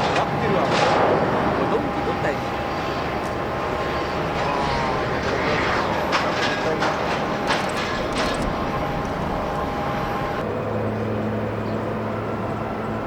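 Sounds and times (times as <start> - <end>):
steady low hum: 0.0 - 12.4
jet airliner noise: 0.0 - 13.0
wind rumble on microphone: 0.0 - 13.0.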